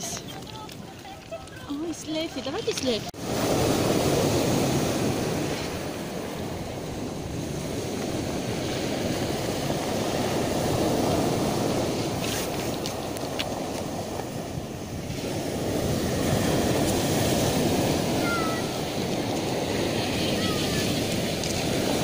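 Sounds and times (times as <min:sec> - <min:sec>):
surf washing up pebble beach: 0:00.0 - 0:22.0.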